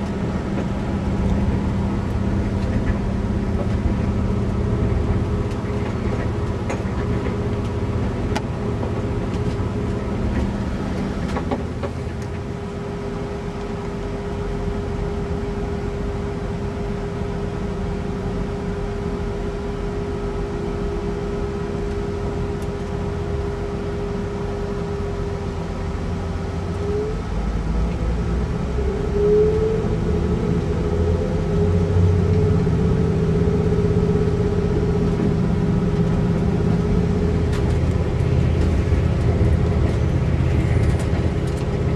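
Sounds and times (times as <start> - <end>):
train engine drone: 0.0 - 41.9
train whine: 0.0 - 41.9.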